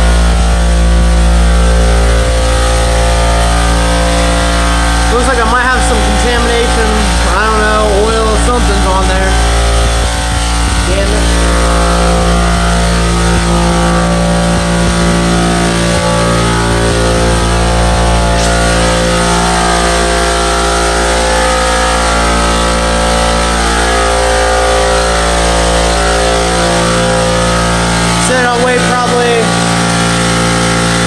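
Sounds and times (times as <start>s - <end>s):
air compressor running: 0.0s - 31.0s.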